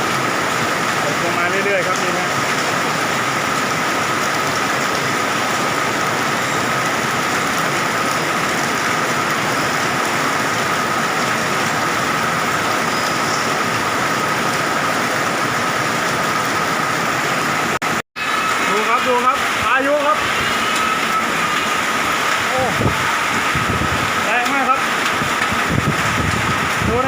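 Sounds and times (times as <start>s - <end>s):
heavy rain and hail: 0.0s - 27.0s.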